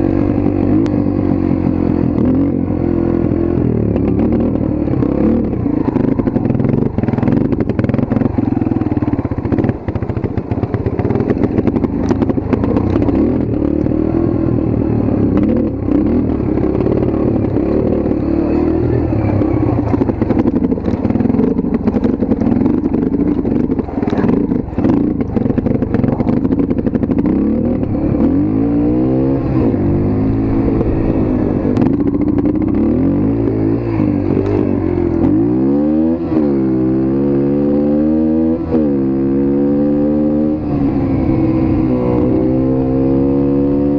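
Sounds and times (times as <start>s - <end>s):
dirt bike engine running: 0.0s - 43.9s.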